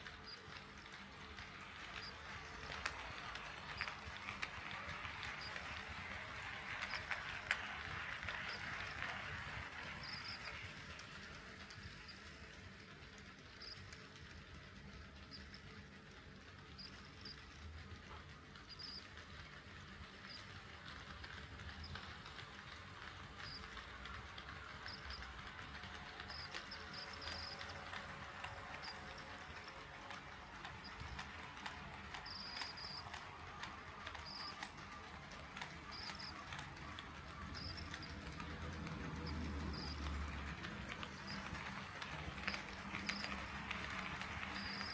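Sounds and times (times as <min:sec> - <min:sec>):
wheels clicking on rails: 0:00.0 - 0:44.9.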